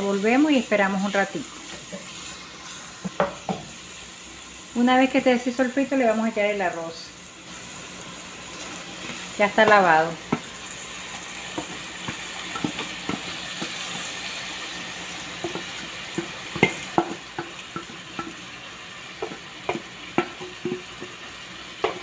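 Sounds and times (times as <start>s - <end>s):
frying sizzle: 0.0s - 22.0s.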